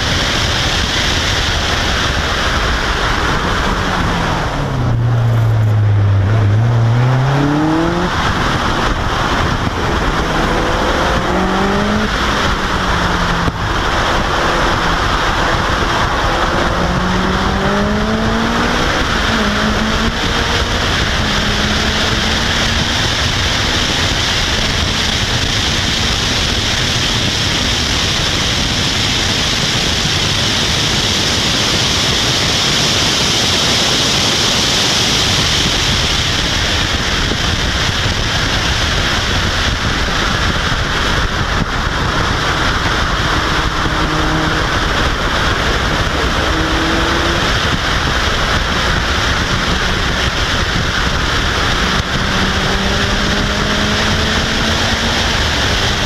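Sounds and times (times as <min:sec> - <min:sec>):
faint car engine accelerating: 0:00.0 - 0:32.7, 0:33.4 - 0:56.0
wind roar on microphone: 0:00.0 - 0:56.0.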